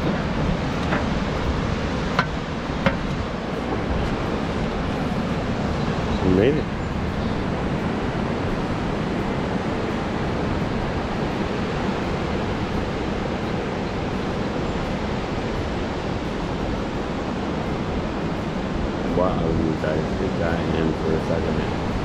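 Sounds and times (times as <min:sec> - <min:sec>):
surf washing over rocky shore: 0:00.0 - 0:22.0.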